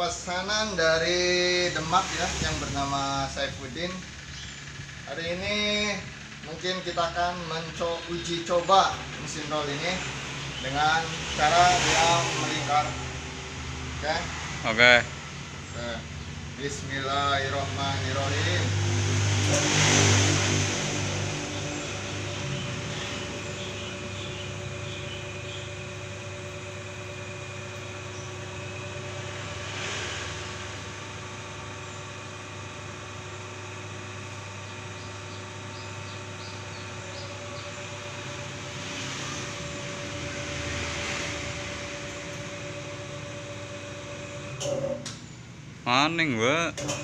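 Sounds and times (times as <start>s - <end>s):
bending machine motor humming: 0.0s - 47.0s.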